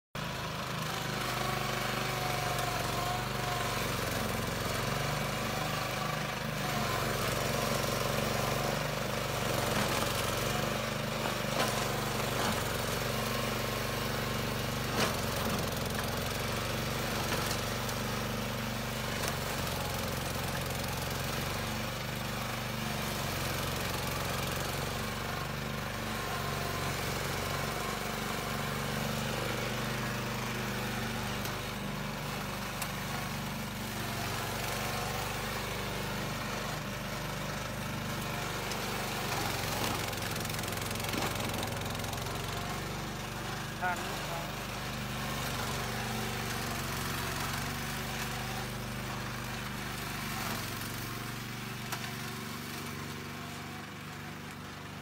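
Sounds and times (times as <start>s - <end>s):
lawn mower engine running: 0.2s - 55.0s.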